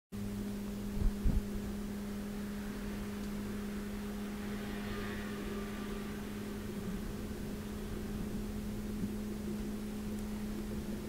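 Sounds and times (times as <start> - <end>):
low electrical hum: 0.2 - 11.0.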